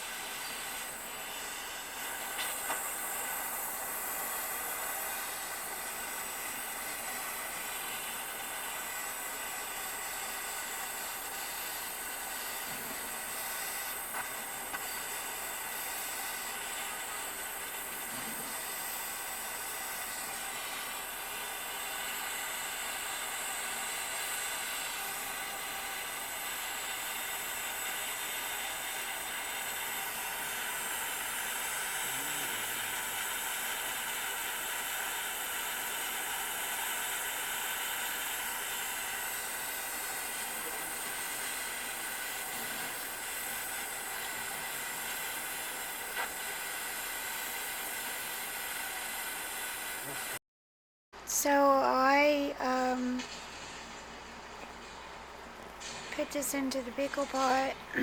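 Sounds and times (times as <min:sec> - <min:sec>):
torch flame hissing: 0:00.0 - 0:50.4, 0:51.3 - 0:58.0.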